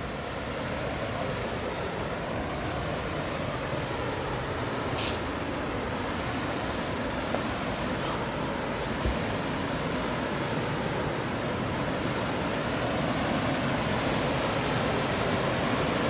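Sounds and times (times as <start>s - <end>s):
waterfall rushing: 0.0s - 16.0s
highway traffic: 1.6s - 15.2s.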